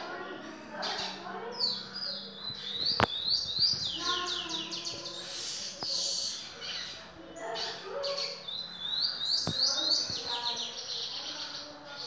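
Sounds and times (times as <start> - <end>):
goldfinch singing: 0.8 - 12.0.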